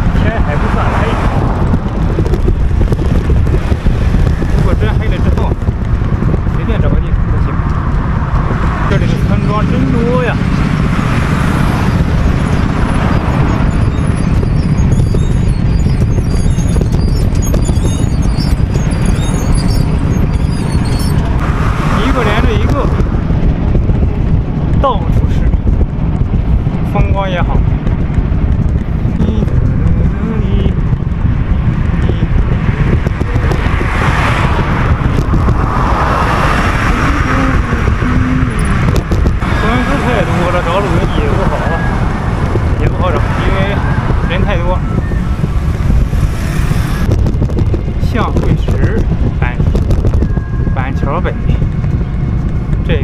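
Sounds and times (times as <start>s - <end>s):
road noise: 0.0s - 53.0s
wind buffeting microphone: 0.0s - 53.0s.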